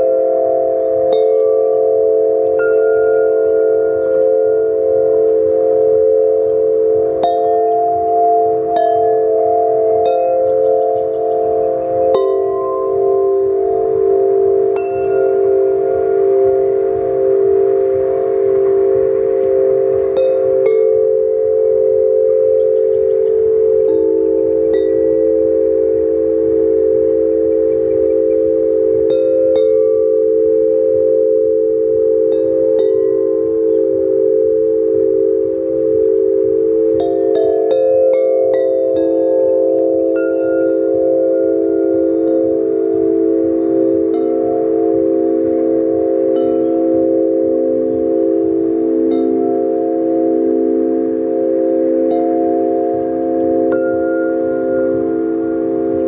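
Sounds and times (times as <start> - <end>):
tubular bells ringing: 0.0 - 56.0.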